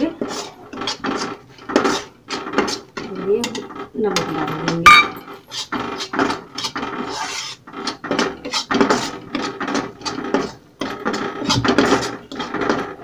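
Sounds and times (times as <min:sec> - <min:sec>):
steel ladle scraping metal pan: 0:00.0 - 0:13.0.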